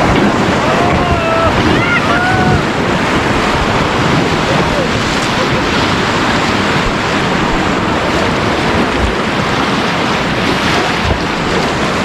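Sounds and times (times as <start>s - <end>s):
river water rushing: 0.0s - 12.0s
wind buffeting microphone: 0.0s - 12.0s.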